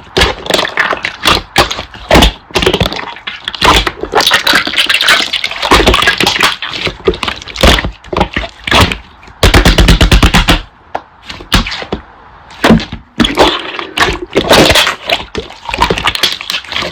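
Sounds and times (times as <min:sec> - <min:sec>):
slime squelching and popping: 0:00.0 - 0:10.6, 0:12.6 - 0:16.9.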